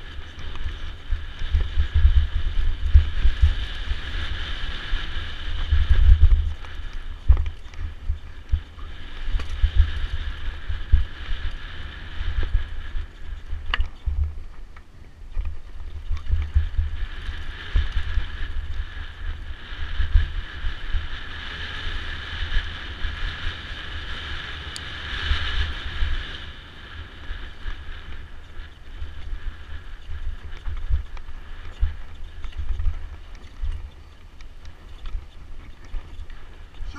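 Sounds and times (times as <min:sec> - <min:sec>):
bike rattling over stones: 0:00.0 - 0:36.9
wind buffeting microphone: 0:00.0 - 0:36.9.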